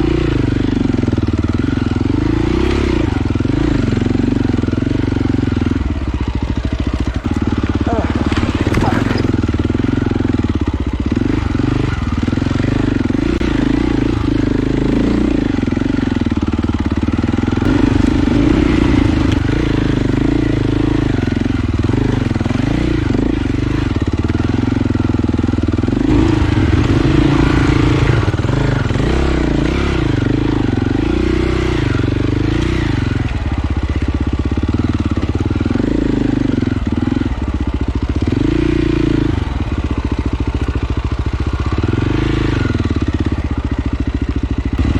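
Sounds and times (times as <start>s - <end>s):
dirt bike engine revving: 0.0s - 44.0s, 44.6s - 44.9s.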